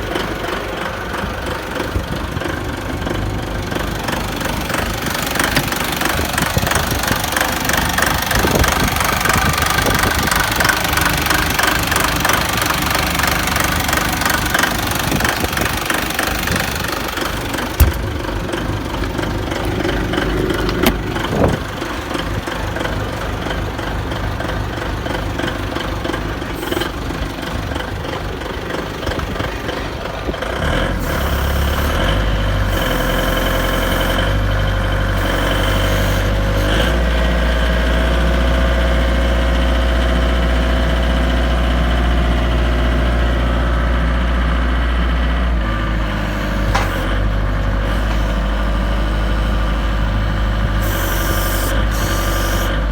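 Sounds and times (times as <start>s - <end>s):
forklift engine running: 0.0s - 52.9s.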